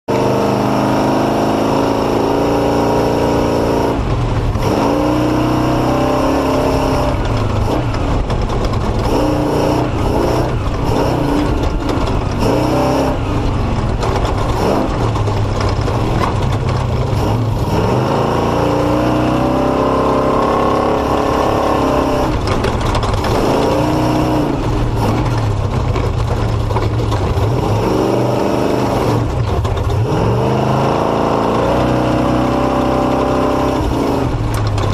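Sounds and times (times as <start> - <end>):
truck engine revving: 0.1 - 34.9
knocks and rattles from rough ground: 4.0 - 30.7, 31.4 - 34.9.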